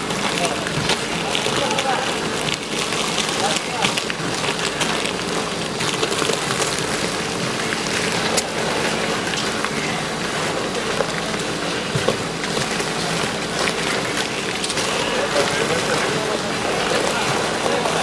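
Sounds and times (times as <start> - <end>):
water spraying on concrete: 0.0 - 18.0.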